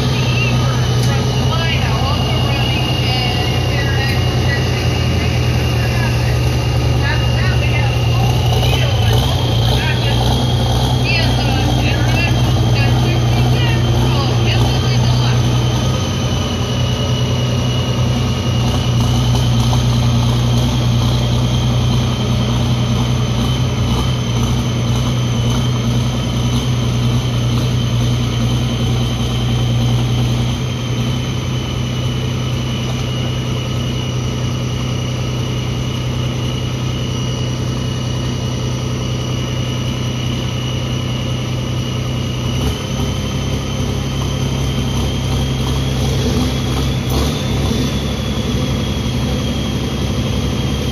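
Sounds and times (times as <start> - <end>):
steady high whine: 0.0 - 50.9
tractor engine running: 0.0 - 50.9.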